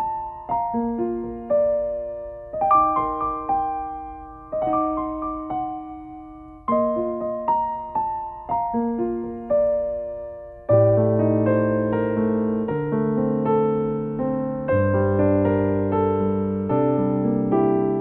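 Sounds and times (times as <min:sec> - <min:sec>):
soft electric piano chords: 0:00.0 - 0:18.0.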